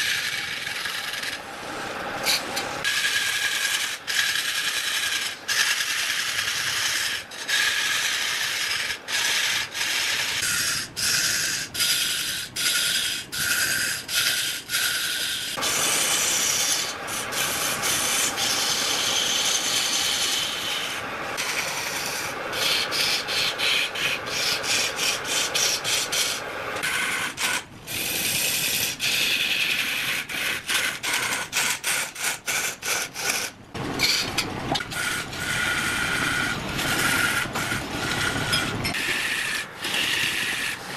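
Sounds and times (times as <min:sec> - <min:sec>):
wood scraping on a lathe: 0:00.0 - 0:40.9.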